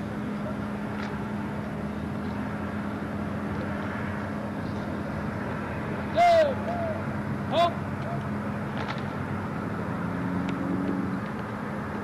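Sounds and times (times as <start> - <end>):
outdoor background hum: 0.0 - 12.0.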